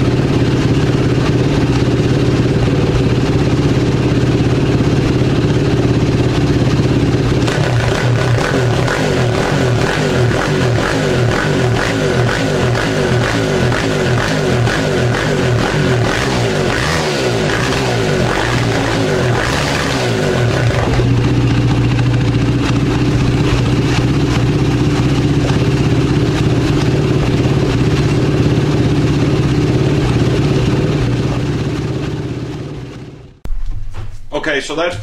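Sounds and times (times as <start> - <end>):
atv engine revving and idling: 0.0 - 33.4.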